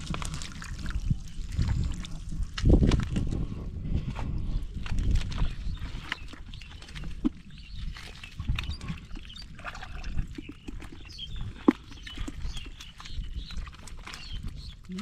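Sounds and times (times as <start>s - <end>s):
shallow water splashing: 0.0s - 3.5s, 4.8s - 15.0s
wet mud squelching: 0.0s - 15.0s.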